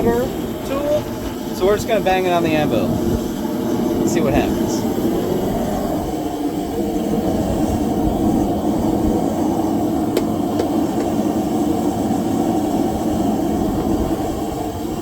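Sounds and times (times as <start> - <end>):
forge rushing noise: 0.0 - 15.0.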